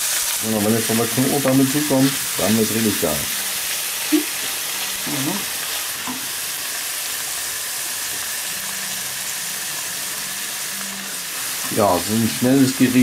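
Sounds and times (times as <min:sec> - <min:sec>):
ham and onions sizzling in oil: 0:00.0 - 0:13.0.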